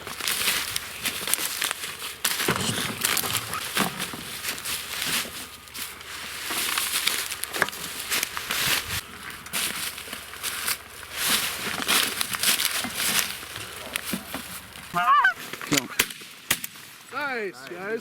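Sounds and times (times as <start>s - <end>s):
handling noise rustling: 0.0s - 15.7s.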